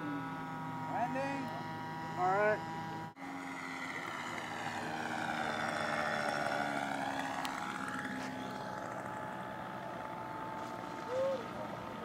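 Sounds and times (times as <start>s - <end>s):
model plane motor and propeller: 0.0s - 12.0s.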